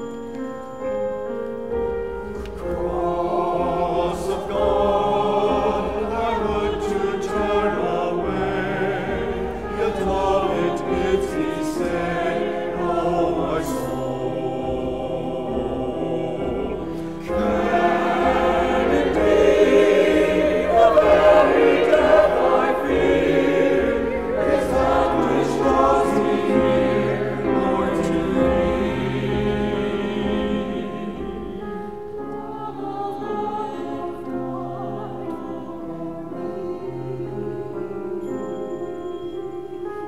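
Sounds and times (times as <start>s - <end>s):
piano accompaniment: 0.0s - 40.0s
choir singing an anthem: 1.8s - 40.0s.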